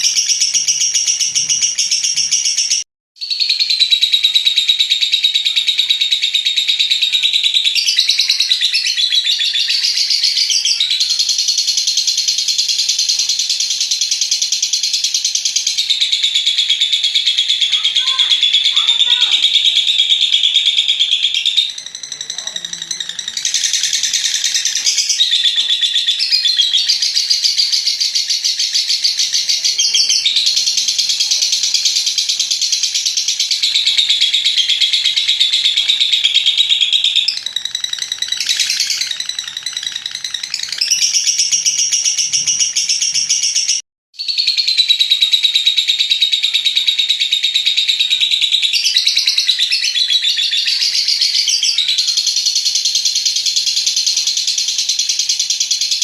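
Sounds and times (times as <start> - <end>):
lovebird trilling chatter: 0.0 - 56.0.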